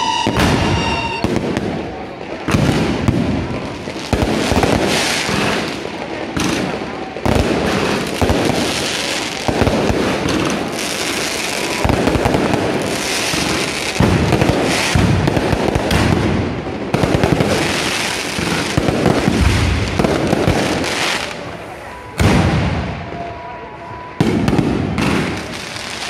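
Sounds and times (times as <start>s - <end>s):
rockets and firecrackers banging: 0.0s - 26.0s.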